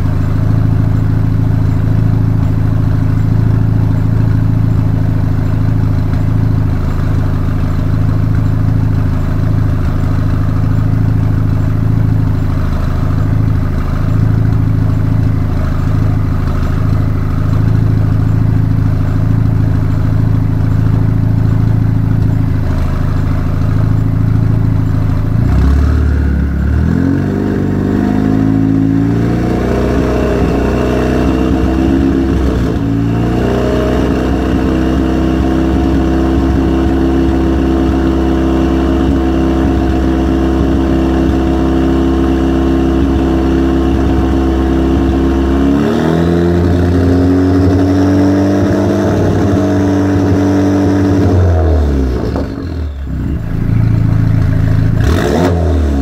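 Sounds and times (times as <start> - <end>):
loud car engine idling and revving: 0.0 - 56.0.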